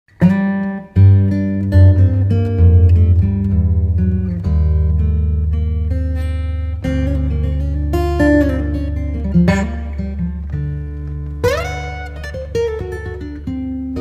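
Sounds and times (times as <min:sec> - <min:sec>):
acoustic guitar music: 0:00.1 - 0:14.0.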